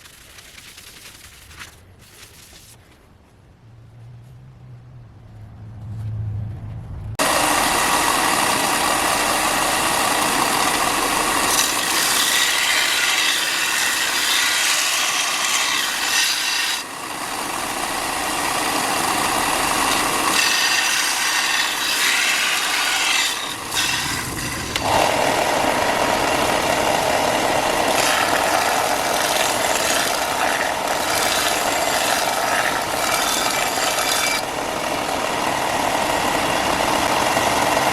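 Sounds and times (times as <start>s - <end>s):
power sander rasping: 7.2s - 37.9s.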